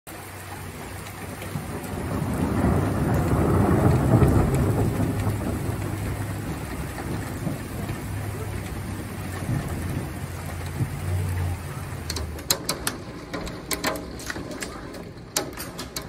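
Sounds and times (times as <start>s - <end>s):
steady rain: 0.1s - 16.0s
long roll of thunder: 0.3s - 15.2s.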